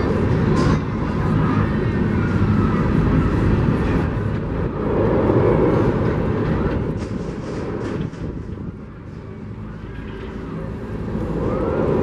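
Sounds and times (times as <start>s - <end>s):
steel train wheels rumbling on rails: 0.0s - 12.0s.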